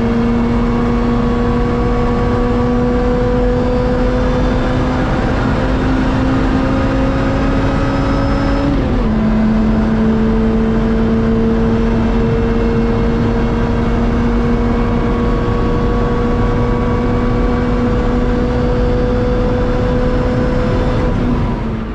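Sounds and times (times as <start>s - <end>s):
car engine accelerating hard: 0.0s - 21.9s
wind and tyre noise: 0.0s - 21.9s.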